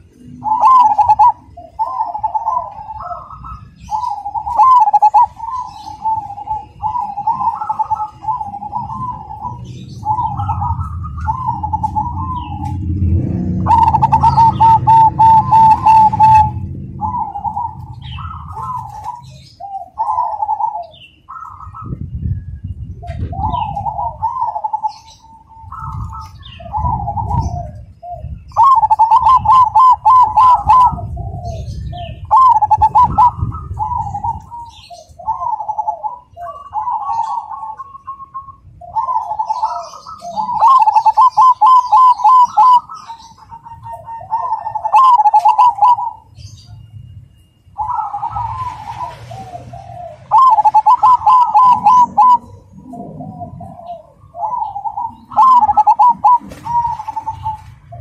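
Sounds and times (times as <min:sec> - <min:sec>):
dove cooing trills: 0:00.0 - 0:58.0
small birds chirping: 0:00.0 - 0:58.0.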